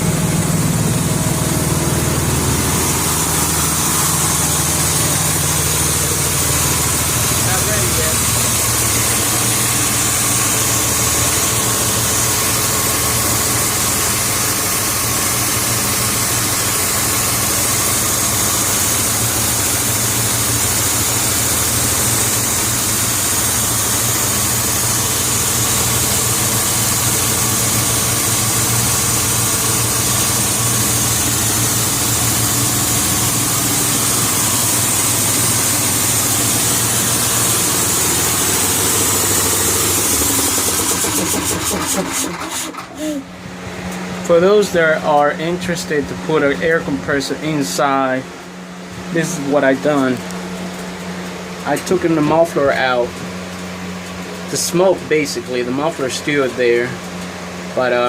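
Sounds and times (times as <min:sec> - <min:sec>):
air compressor running: 0:00.0 - 0:58.0.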